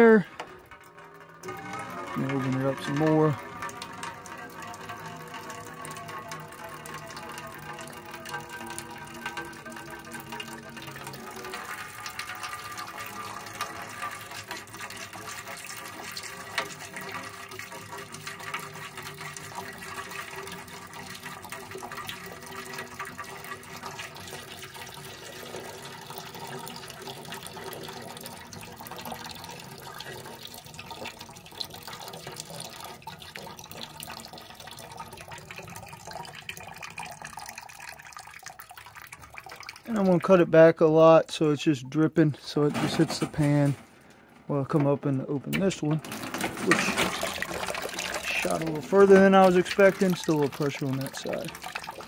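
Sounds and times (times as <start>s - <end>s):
water pouring into metal bucket: 0.0s - 52.0s.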